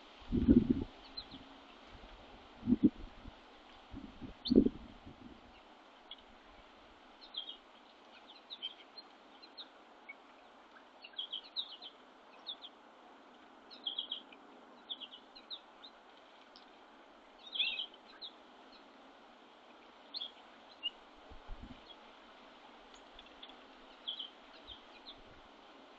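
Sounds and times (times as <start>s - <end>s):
faint outdoor hiss: 0.0s - 25.9s
songbirds chirping: 0.0s - 25.9s.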